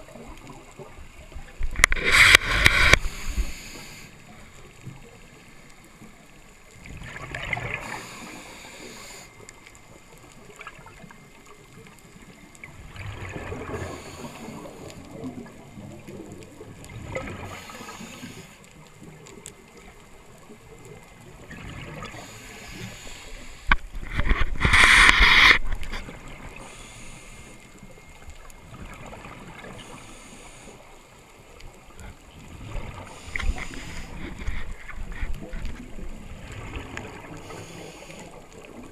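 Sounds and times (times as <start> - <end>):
low regulator hiss: 0.0 - 32.2, 32.8 - 38.9.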